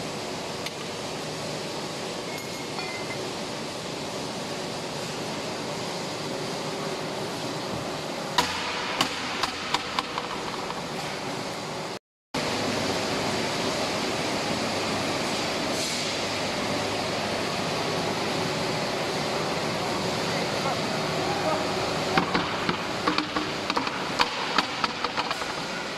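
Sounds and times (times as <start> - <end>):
mechanical workshop noise: 0.0 - 25.9.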